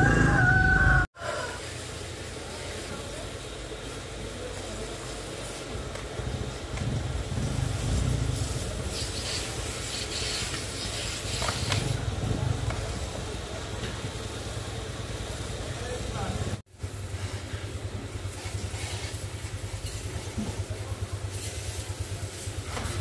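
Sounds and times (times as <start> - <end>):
vehicle engine running: 1.6 - 23.0.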